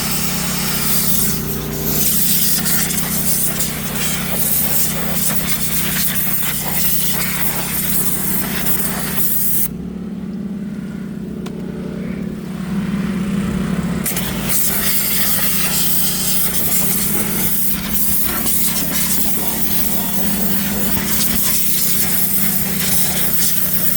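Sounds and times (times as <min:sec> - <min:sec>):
pressure washer spray hissing: 0:00.0 - 0:09.7, 0:14.0 - 0:23.9
washer motor and pump humming: 0:00.0 - 0:09.7, 0:11.4 - 0:23.9.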